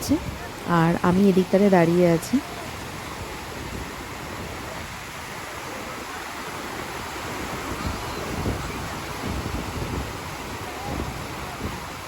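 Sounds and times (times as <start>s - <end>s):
sea surf washing onto beach: 0.0s - 12.0s
wind buffeting microphone: 0.0s - 12.0s.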